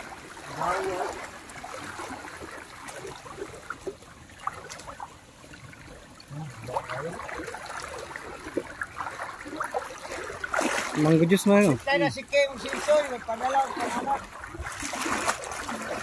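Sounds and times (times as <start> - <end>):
shallow river water flowing: 0.0 - 16.0
small splashes and ticks: 0.0 - 16.0.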